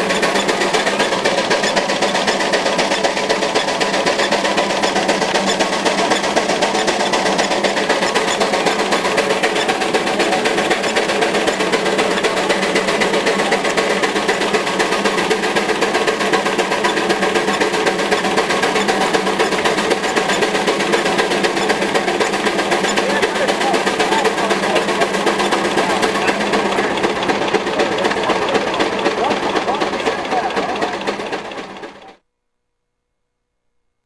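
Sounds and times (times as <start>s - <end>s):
lathe machinery rattling: 0.0s - 32.2s.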